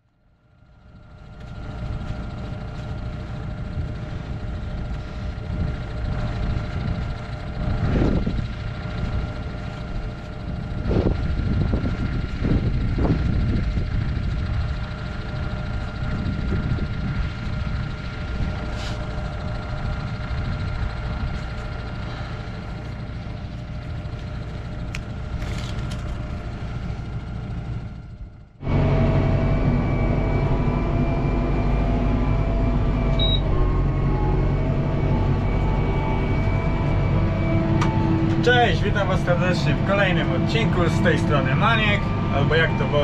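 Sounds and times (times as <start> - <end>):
machine whine: 0.1 - 43.0
tractor engine running: 0.2 - 43.0.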